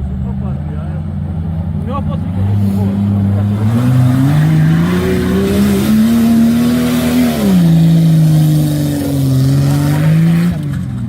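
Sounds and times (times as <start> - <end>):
off-road engine revving: 0.0 - 11.0.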